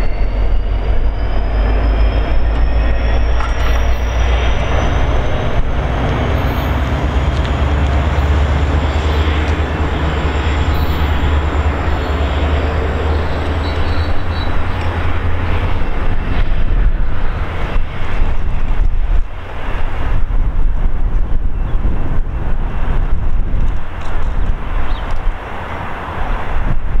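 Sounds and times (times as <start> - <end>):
diesel locomotive engine rumble: 0.0 - 27.0
wind buffeting microphone: 0.0 - 27.0.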